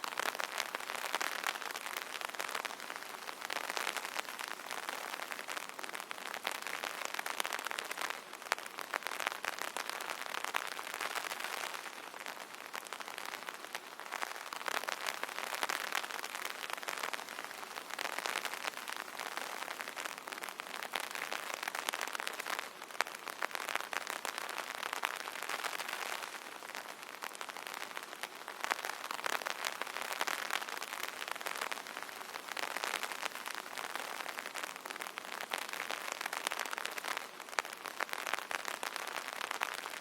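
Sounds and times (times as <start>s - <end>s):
rain pattering on an umbrella: 0.0s - 40.0s.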